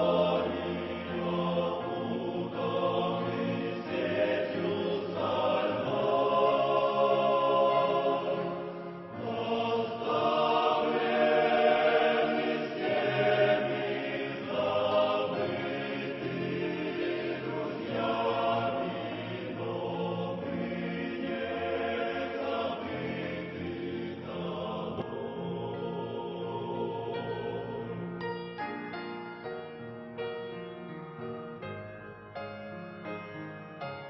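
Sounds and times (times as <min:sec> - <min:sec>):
choir singing a hymn: 0:00.0 - 0:29.8.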